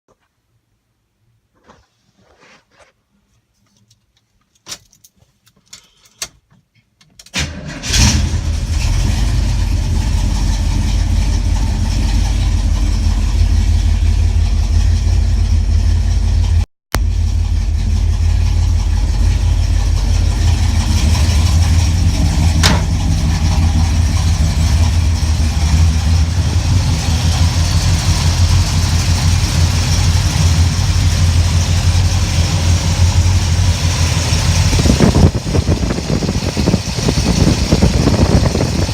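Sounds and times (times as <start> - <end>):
car engine starting and idling: 7.3 - 38.9.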